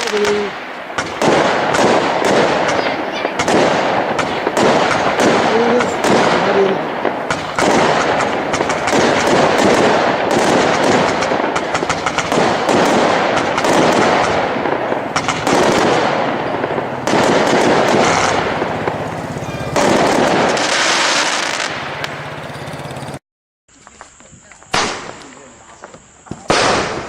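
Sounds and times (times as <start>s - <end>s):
fireworks barrage crackling: 0.0s - 27.0s.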